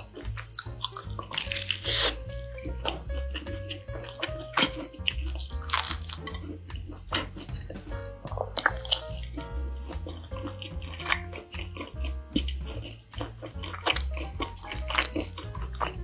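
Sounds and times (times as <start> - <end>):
background music with bass: 0.0 - 16.0
wet chewing and mouth sounds: 0.0 - 16.0.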